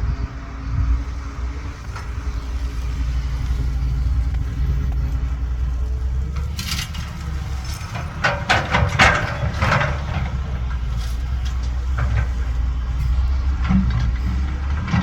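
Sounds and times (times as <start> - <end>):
diesel engine rumble: 0.0 - 15.0
metal clanks and rattles: 1.1 - 15.0.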